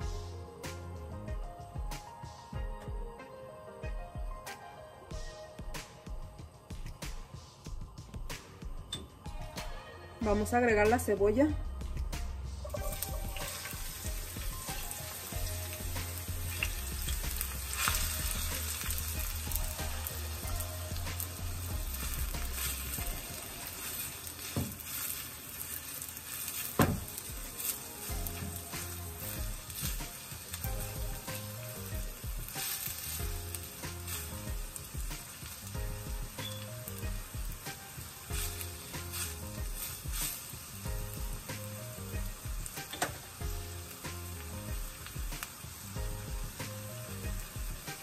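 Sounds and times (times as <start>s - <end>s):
onion sizzling in oil: 8.8s - 48.0s.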